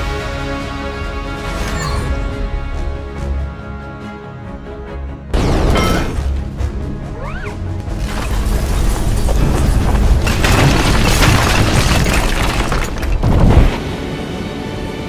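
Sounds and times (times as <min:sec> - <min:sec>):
dramatic film score music: 0:00.0 - 0:10.4, 0:13.3 - 0:15.0.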